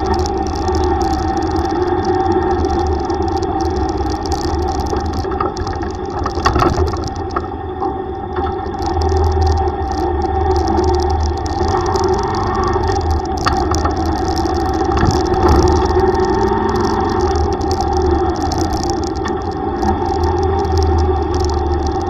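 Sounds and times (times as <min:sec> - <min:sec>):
faint clicks: 0:00.0 - 0:22.0
motor tricycle engine running: 0:00.0 - 0:22.0.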